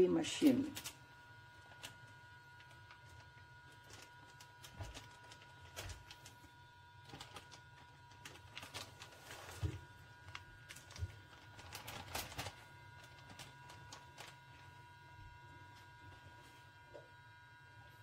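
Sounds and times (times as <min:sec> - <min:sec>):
faint steady hum: 0:00.0 - 0:18.0
plastic bags crinkling: 0:00.4 - 0:15.1.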